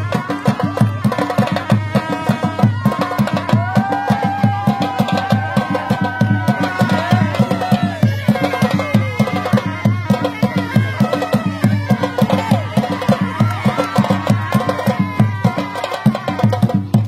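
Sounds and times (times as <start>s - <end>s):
drums beating fast rhythm: 0.0s - 17.0s.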